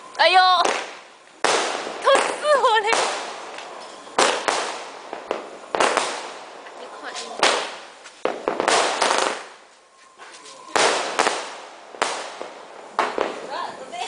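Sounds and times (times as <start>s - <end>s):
fireworks bursting with hiss: 0.0s - 14.0s.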